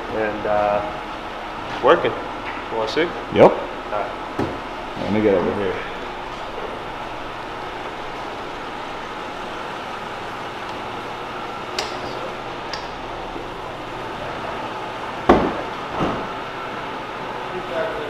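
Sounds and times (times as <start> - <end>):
convertible top mechanism hum: 0.0 - 18.0.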